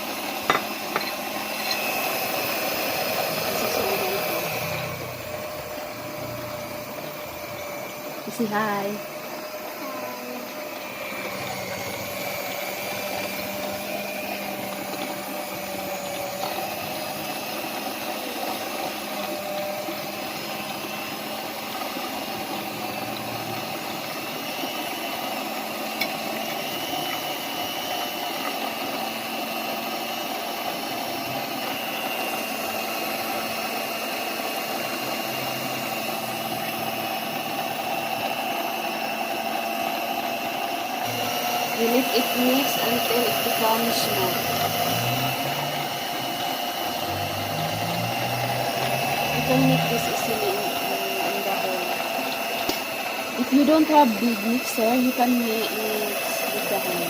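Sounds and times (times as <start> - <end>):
electric mixer motor running: 0.0 - 57.0.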